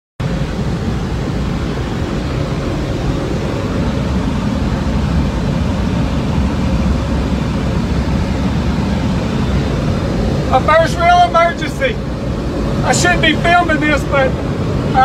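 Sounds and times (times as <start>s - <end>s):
propeller plane cabin rumble: 0.2s - 15.0s.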